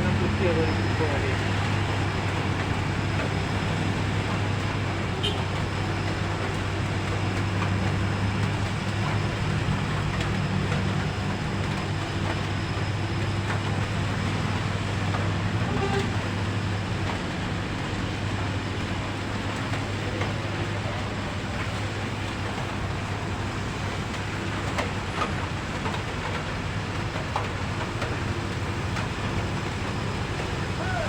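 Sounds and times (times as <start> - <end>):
road and traffic hiss: 0.0 - 31.0
truck diesel engine droning: 0.0 - 31.0.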